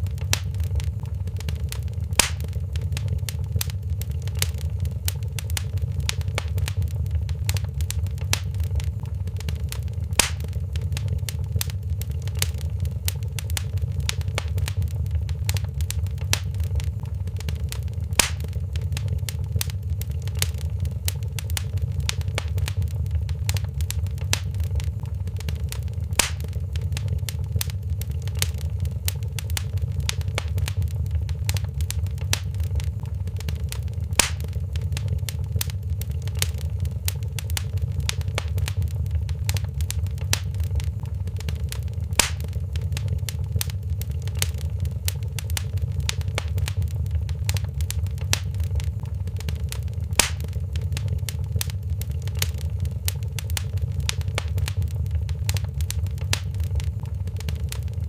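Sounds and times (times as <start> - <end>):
loud fire pops: 0.0 - 58.0
low rumble of flames: 0.0 - 58.0
wood fire crackling: 0.0 - 58.0.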